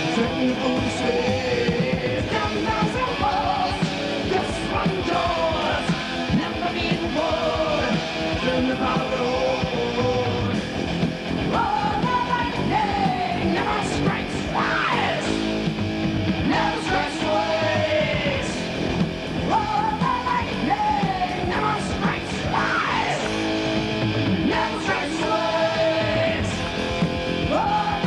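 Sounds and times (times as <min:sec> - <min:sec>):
sung and yelled vocals: 0:00.0 - 0:10.7, 0:11.4 - 0:28.0
heavy metal band playing: 0:00.0 - 0:28.0.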